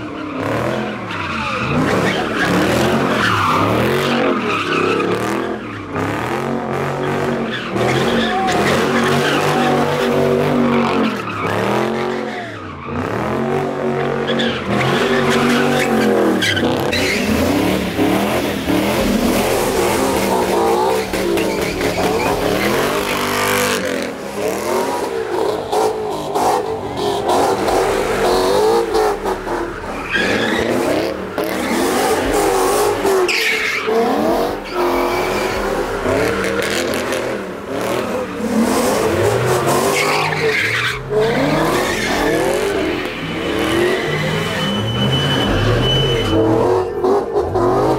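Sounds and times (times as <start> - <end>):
car engines revving: 0.0 - 47.9
tyres squealing on asphalt: 0.0 - 47.9.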